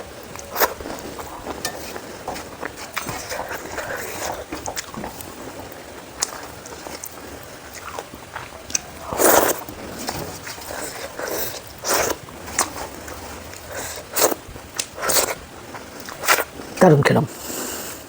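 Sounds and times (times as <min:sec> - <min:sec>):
person chewing: 0:00.2 - 0:16.8
smacks or slurps: 0:00.3 - 0:16.5.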